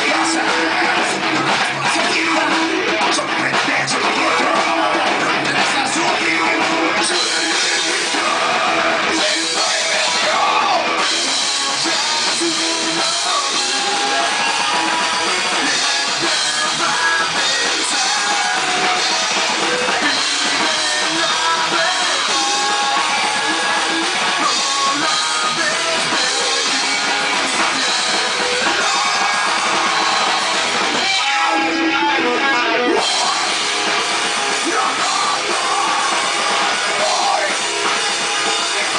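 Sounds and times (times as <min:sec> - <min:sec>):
distorted electric guitar: 0:00.0 - 0:38.9
drum kit: 0:00.0 - 0:38.9.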